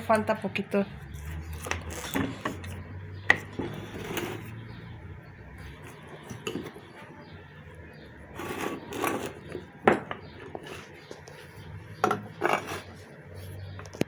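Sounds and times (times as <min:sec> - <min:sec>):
metal scraping: 0:00.0 - 0:07.3, 0:08.2 - 0:13.8.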